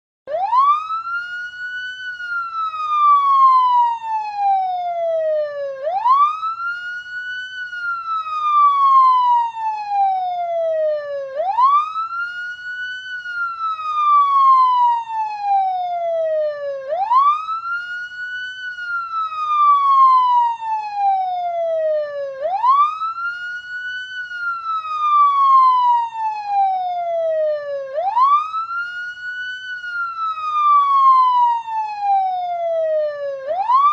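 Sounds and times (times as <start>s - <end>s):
police siren wailing: 0.3s - 33.9s.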